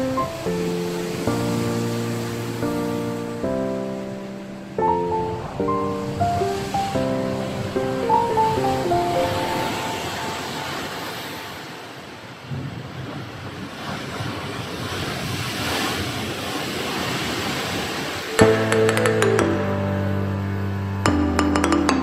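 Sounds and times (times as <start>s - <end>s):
wind on microphone: 0.0s - 18.7s
ocean waves surging: 0.0s - 22.0s.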